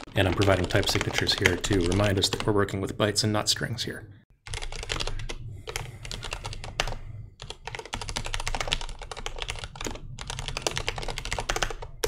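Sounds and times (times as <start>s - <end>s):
fast typing on computer keyboard: 0.0s - 2.7s, 4.4s - 12.0s.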